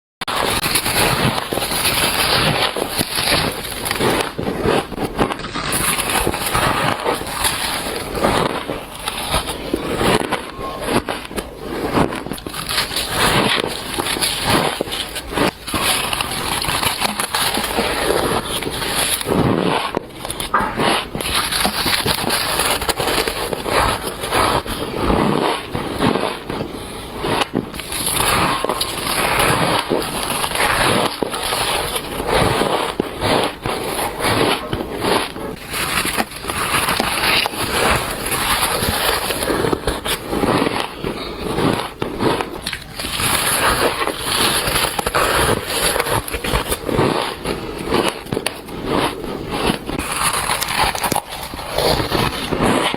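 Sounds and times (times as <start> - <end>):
crunching frozen shaved ice: 0.3 - 52.9.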